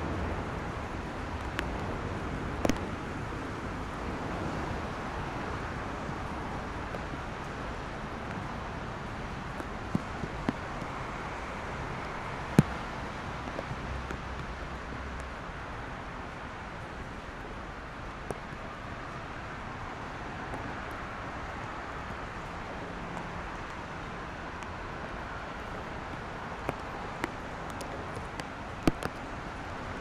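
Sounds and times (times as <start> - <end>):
traffic on wet road: 0.0 - 30.0.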